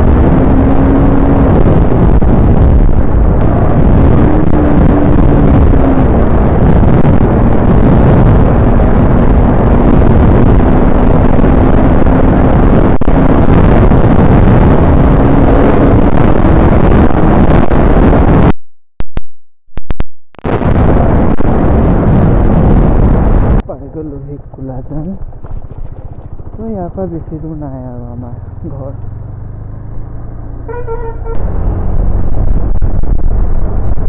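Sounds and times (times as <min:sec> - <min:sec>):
wind buffeting microphone: 0:00.0 - 0:18.5, 0:20.5 - 0:29.4, 0:31.4 - 0:34.0
motorcycle engine drone: 0:00.0 - 0:18.6, 0:20.4 - 0:34.0.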